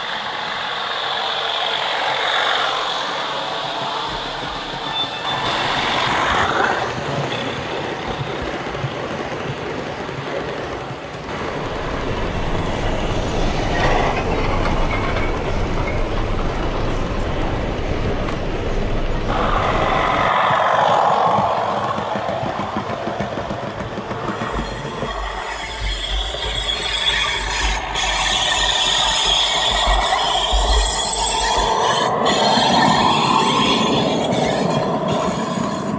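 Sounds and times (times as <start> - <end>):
model train wheels clicking on track: 0.0 - 35.9.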